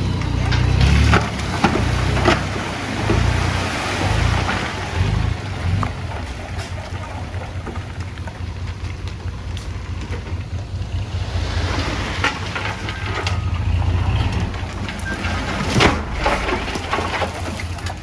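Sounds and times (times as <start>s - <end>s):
diesel engine low pulsing rumble: 0.0s - 18.0s
metal clanks: 0.0s - 18.0s
stone and dirt rattling: 0.0s - 18.0s.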